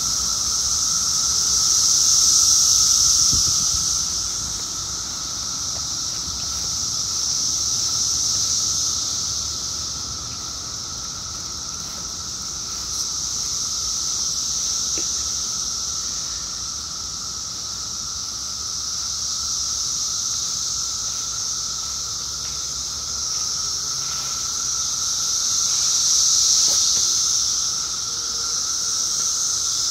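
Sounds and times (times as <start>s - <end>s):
cicadas chorus high hiss: 0.0s - 29.9s
cicadas low thin whine: 0.0s - 29.9s.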